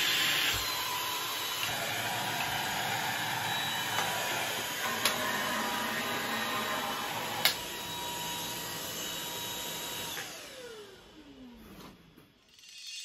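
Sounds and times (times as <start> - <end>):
vacuum motor whining: 0.0 - 11.6.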